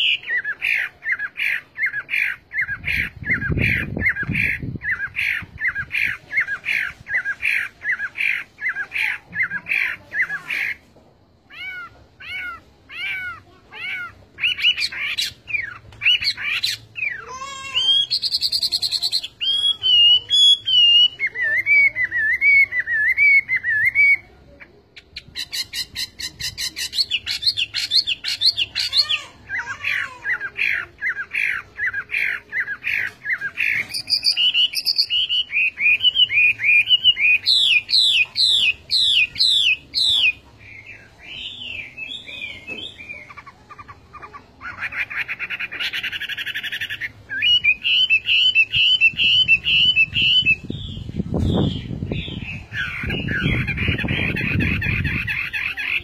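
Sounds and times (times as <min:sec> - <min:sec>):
songbird whistling and trilling: 0:00.0 - 0:10.8, 0:11.5 - 0:24.3, 0:29.8 - 0:43.5, 0:44.8 - 0:56.0.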